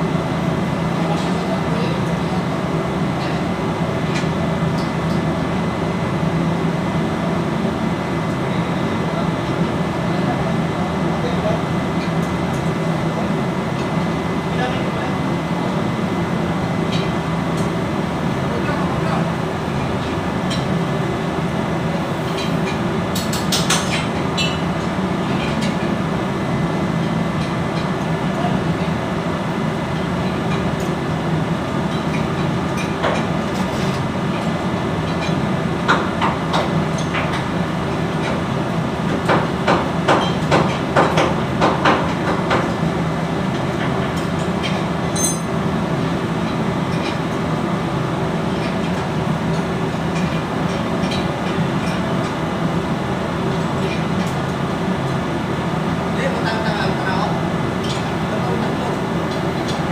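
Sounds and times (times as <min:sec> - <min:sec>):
low machinery hum: 0:00.0 - 0:59.9.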